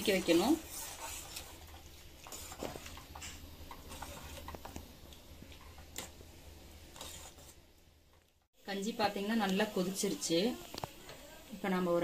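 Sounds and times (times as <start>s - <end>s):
porridge bubbling in pot: 0.0s - 11.9s.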